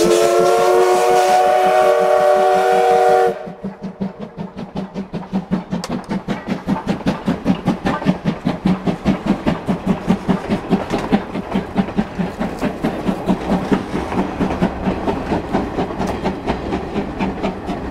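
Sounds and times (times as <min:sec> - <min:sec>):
steam locomotive exhaust chuffing: 0:00.0 - 0:17.9.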